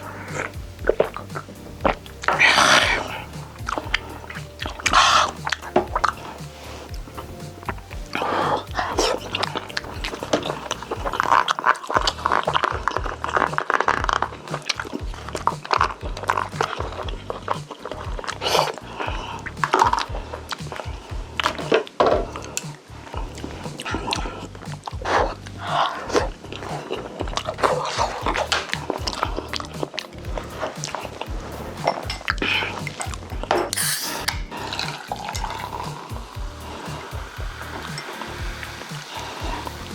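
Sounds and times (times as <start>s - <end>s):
person chewing with wet mouth noises: 0.0s - 39.9s.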